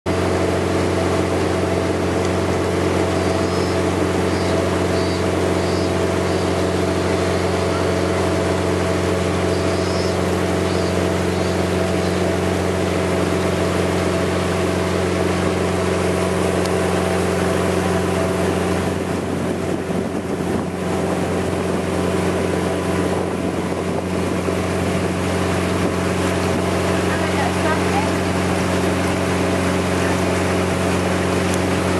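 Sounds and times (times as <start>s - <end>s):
boat engine droning: 0.1s - 31.9s
water rushing past hull: 0.1s - 31.9s.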